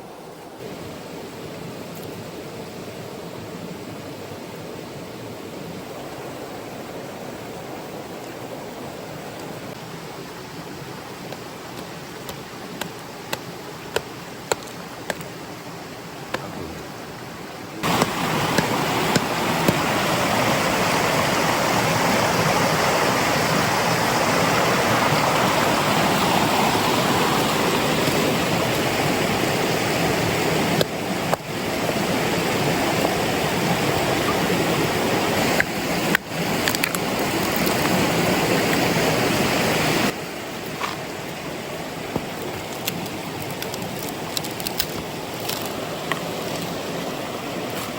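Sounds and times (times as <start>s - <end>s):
rushing water: 0.0s - 47.9s.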